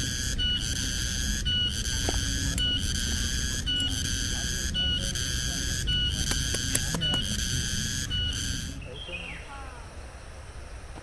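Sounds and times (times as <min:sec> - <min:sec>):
cicadas droning: 0:00.0 - 0:11.0
steady low rumble: 0:00.0 - 0:11.0.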